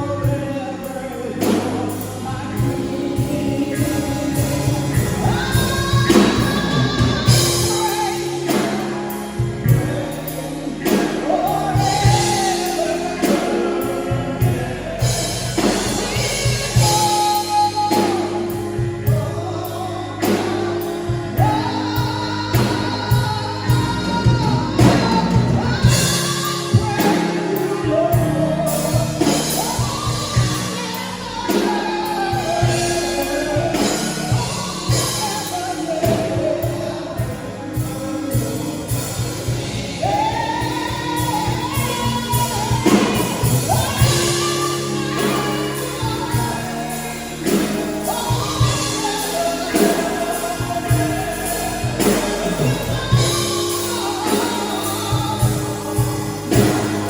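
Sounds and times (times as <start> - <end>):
band with steady beat: 0.0 - 57.0
voices singing gospel: 0.0 - 57.0.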